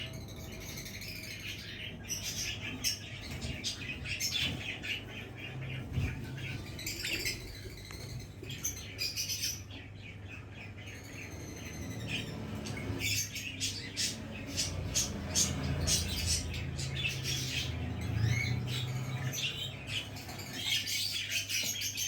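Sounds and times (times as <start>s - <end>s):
budgerigars chirping and warbling: 0.0s - 22.0s.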